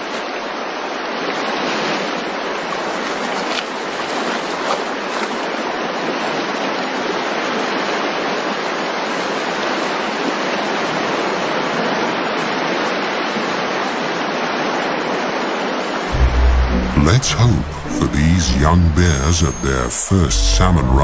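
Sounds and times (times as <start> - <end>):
stream rushing over rocks: 0.0 - 17.6.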